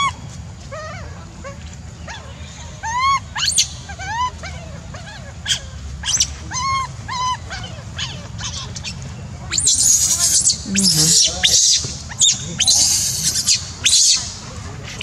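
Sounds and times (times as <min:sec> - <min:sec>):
young monkey whimpering: 0:00.8 - 0:08.9, 0:09.5 - 0:15.0.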